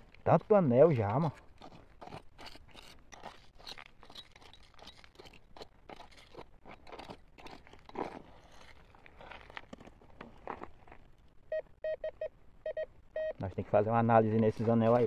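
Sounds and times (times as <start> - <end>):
gravel crunching and scraping: 0.0 - 11.5, 13.4 - 15.0.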